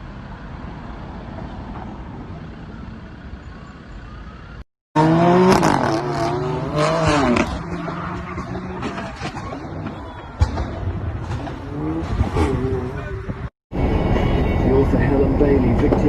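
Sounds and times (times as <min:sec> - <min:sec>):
car road and engine noise: 0:00.0 - 0:16.0
loud car drone with wavering tones: 0:00.0 - 0:16.0.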